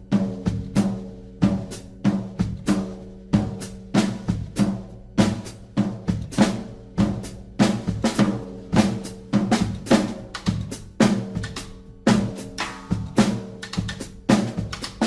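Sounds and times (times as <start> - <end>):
drum-kit beat: 0.0 - 15.0.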